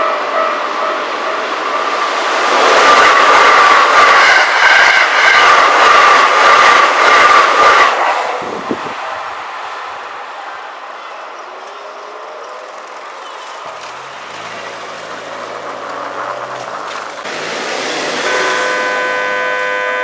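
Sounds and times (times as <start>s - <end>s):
railroad crossing warning bell: 0.0s - 7.8s, 9.8s - 20.0s
clickety-clack of rail joints: 0.0s - 17.4s
train passing at high speed: 0.0s - 20.0s.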